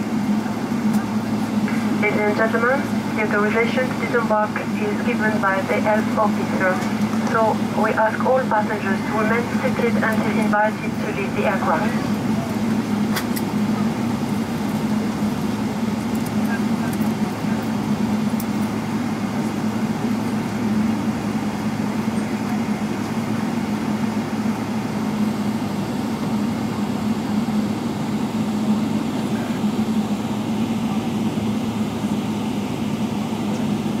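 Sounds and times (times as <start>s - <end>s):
airplane cabin hum and rush: 0.0s - 34.0s.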